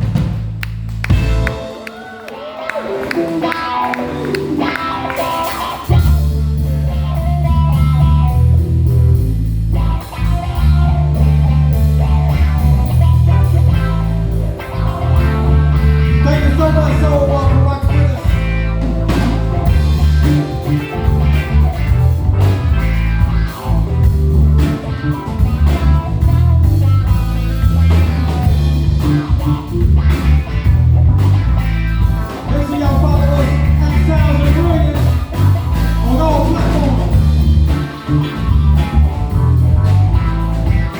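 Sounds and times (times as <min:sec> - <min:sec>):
bass guitar: 0:00.0 - 0:40.9
drums: 0:00.0 - 0:40.9
keyboard melody: 0:01.0 - 0:09.6, 0:10.4 - 0:40.9.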